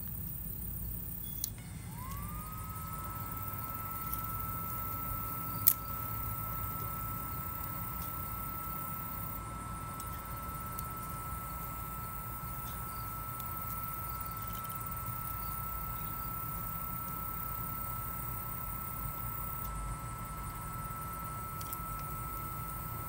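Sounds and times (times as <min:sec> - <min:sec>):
small fan whine: 0:00.0 - 0:23.0.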